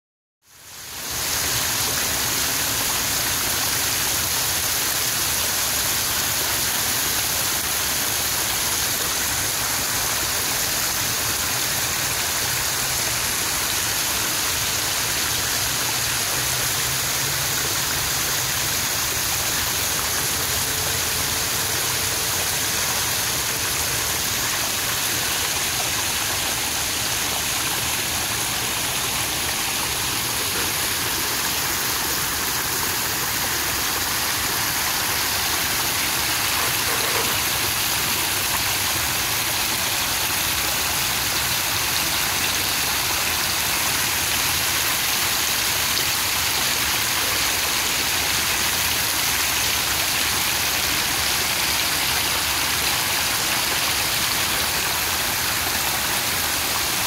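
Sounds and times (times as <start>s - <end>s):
waterfall splashing over boulders: 0.5s - 57.0s.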